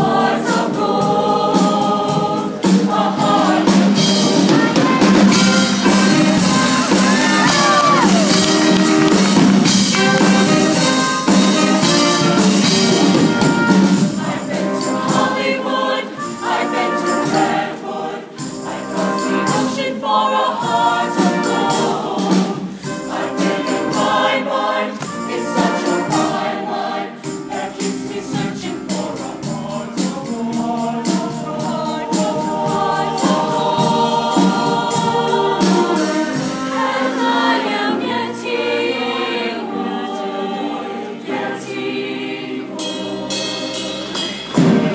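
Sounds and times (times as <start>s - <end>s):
percussion beat: 0.0s - 37.8s, 42.7s - 44.9s
choir singing in harmony: 0.0s - 44.9s.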